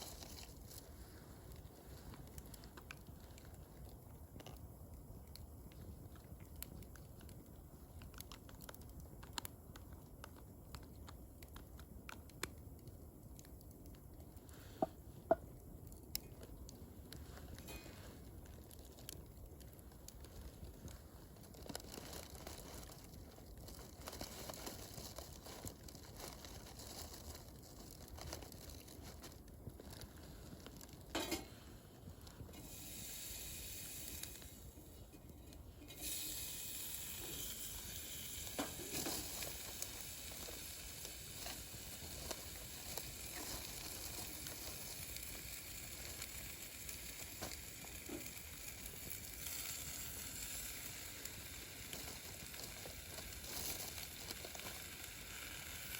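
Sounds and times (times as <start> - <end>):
fire crackling pops: 0.0 - 55.9
wood fire hissing: 0.0 - 55.9.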